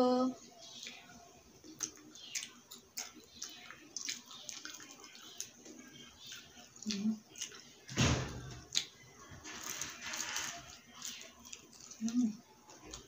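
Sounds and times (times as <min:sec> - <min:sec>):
crackling chewing: 0:00.4 - 0:13.0.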